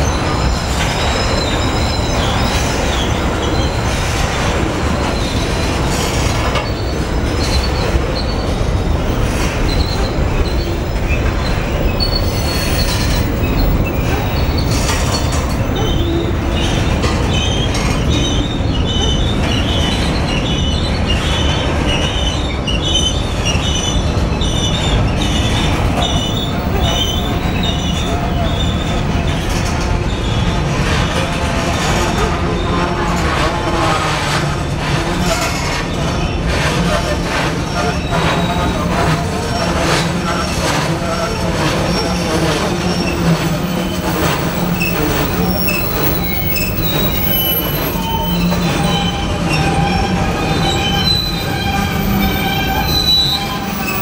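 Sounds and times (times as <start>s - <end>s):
freight train wheels rumbling: 0.0s - 54.0s
wheel flanges squealing: 0.0s - 54.0s.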